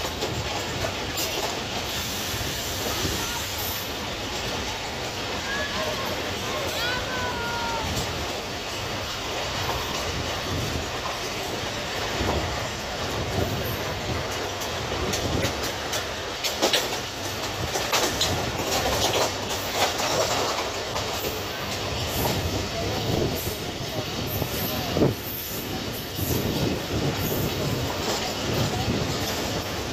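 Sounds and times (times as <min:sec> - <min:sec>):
train coaches rumbling: 0:00.0 - 0:29.9
wheels clacking: 0:00.0 - 0:29.9.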